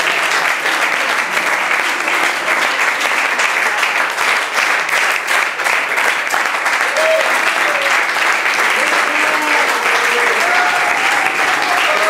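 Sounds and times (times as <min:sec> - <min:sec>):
people applauding: 0:00.0 - 0:12.0.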